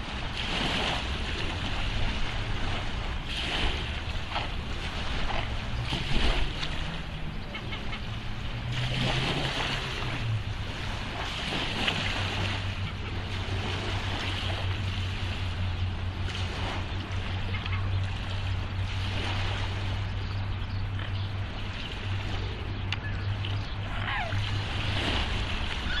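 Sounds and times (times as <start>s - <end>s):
constant low hum: 0.0s - 26.0s
waves lapping: 0.0s - 26.0s.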